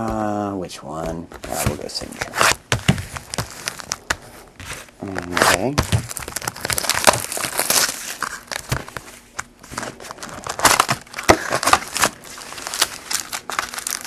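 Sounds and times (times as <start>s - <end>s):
cellophane crinkling: 1.4s - 14.0s.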